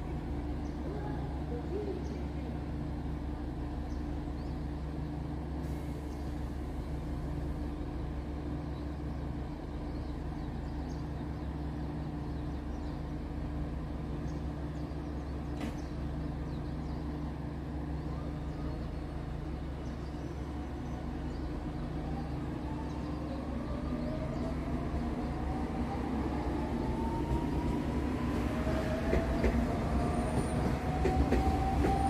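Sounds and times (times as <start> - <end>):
electric train humming: 0.0 - 32.0.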